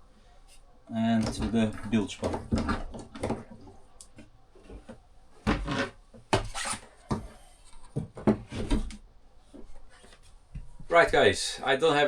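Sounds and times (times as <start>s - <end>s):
wood scraping and knocking on wood: 1.1s - 11.3s.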